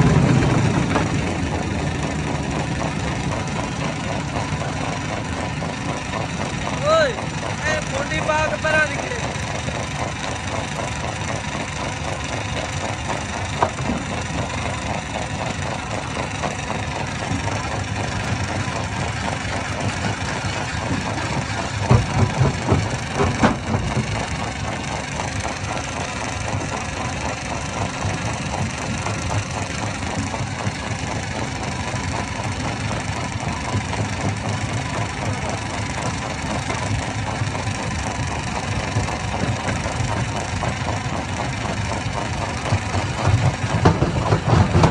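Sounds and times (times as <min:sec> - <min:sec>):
stone crusher rumbling: 0:00.0 - 0:44.9.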